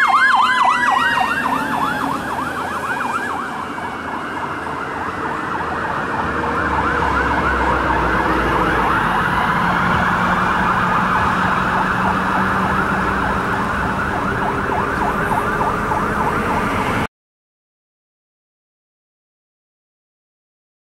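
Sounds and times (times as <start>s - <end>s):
fire engine siren yelping: 0.0s - 17.1s
truck engine rumble: 0.0s - 17.1s.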